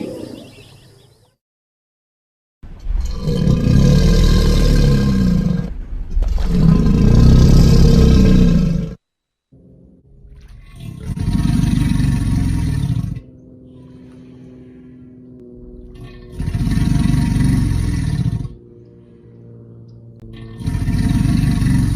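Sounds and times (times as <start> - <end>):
alligator bellowing: 0.0 - 0.9, 2.7 - 9.0, 9.6 - 19.4, 20.2 - 21.9.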